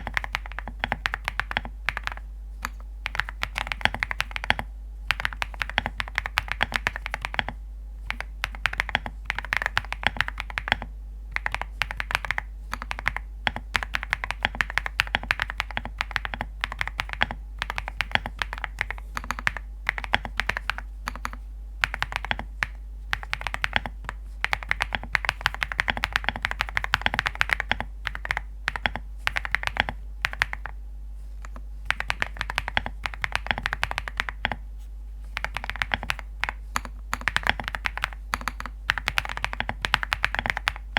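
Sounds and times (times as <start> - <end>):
mechanical keyboard typing: 0.0 - 30.8, 31.4 - 34.6, 35.3 - 40.9.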